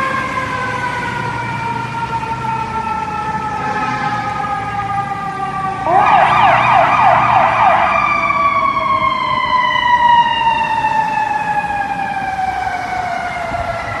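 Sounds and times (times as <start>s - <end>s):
electronic siren yelp and wail: 0.0s - 14.0s.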